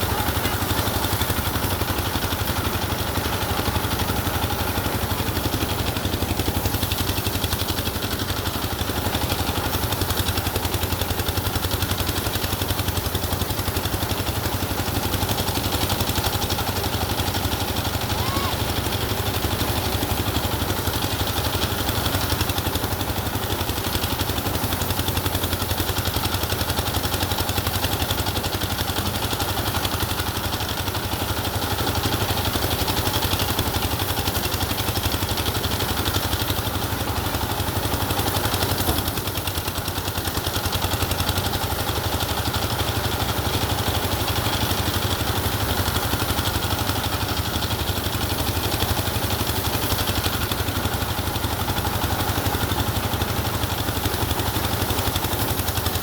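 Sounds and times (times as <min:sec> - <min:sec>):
engine running with regular pulsing: 0:00.0 - 0:56.0.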